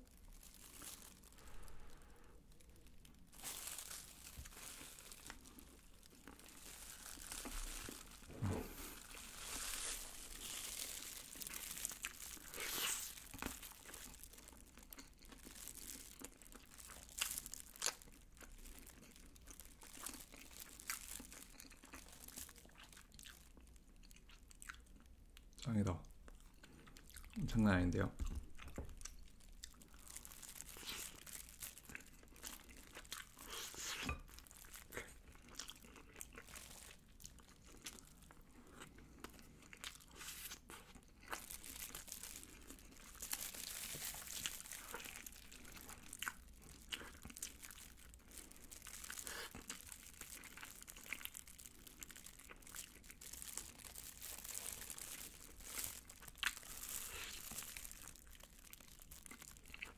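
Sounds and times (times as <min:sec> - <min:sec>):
plastic glove crinkling: 0:00.0 - 0:23.8, 0:28.8 - 0:38.4, 0:39.8 - 0:59.9
chewing fried chicken: 0:02.4 - 0:59.9.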